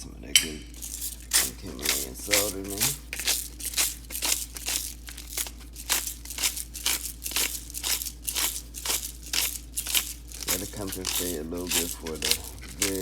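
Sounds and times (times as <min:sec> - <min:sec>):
salt grinder crunching: 0:00.7 - 0:13.0.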